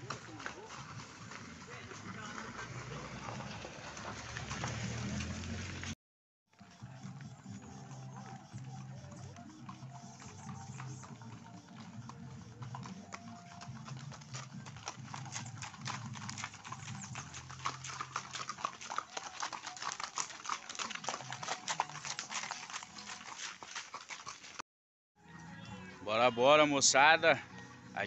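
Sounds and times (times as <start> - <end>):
hooves clip-clopping on dirt road: 0.0 - 24.6.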